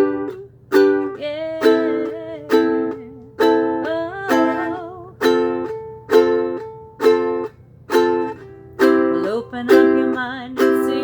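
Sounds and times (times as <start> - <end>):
ukulele strumming chords: 0.0 - 11.0.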